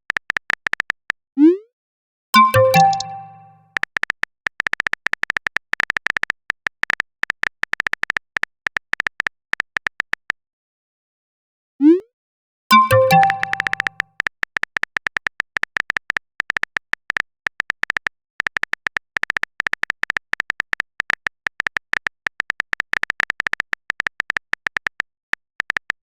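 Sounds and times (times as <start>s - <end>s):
keyboard typing clicks: 2.4s - 10.2s, 12.7s - 26.0s.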